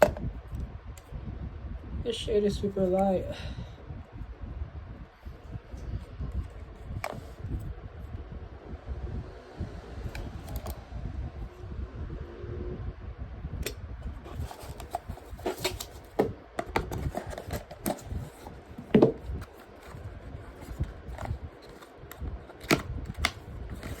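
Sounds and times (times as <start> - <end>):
low rumble: 0.0 - 2.1, 2.7 - 24.0.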